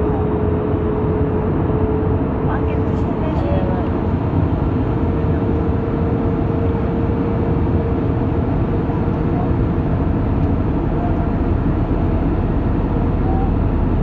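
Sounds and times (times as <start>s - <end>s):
airliner cabin noise: 0.0s - 14.0s.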